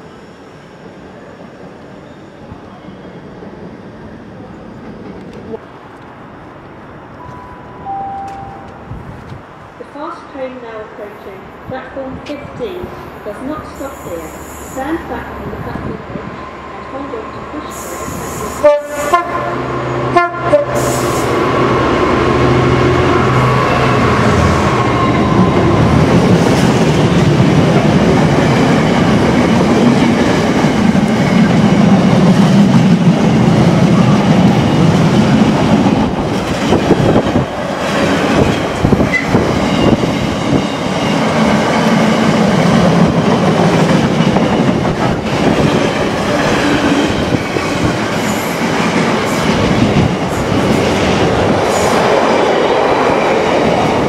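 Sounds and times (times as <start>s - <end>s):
diesel locomotive engine: 0.0s - 54.0s
train wagons rumbling over rails: 1.2s - 54.0s.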